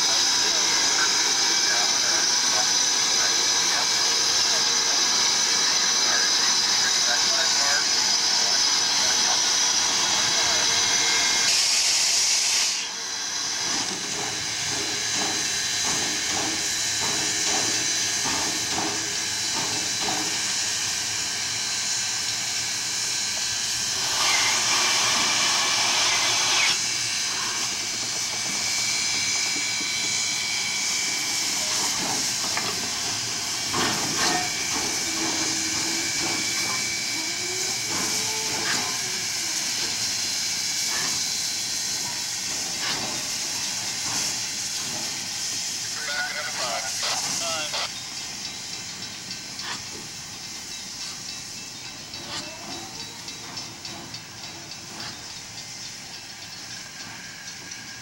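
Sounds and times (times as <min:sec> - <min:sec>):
loud rush of steam: 0:00.0 - 0:52.6
steam hissing: 0:00.0 - 0:58.0.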